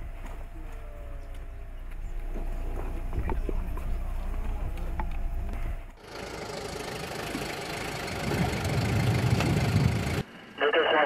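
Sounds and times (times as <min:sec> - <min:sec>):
vehicle engine rumbling: 0:00.0 - 0:10.6
low steady hum: 0:00.0 - 0:11.0.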